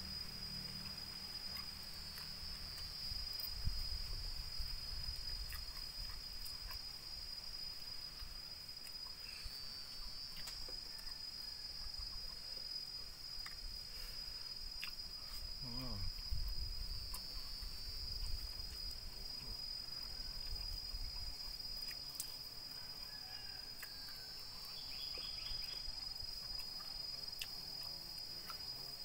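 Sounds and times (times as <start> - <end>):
insect chirring: 0.0 - 29.0.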